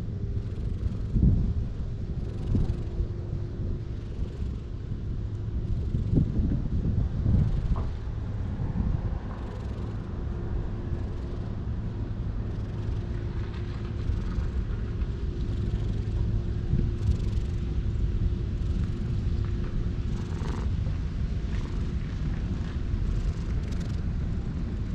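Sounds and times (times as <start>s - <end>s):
cat purring: 0.2s - 24.9s.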